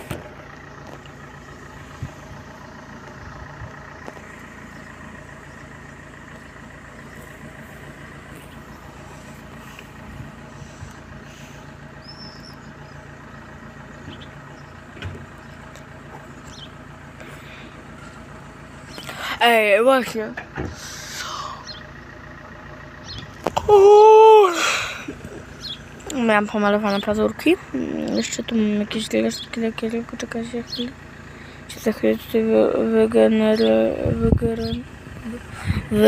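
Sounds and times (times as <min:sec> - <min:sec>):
steady mechanical hum: 0:00.0 - 0:36.0.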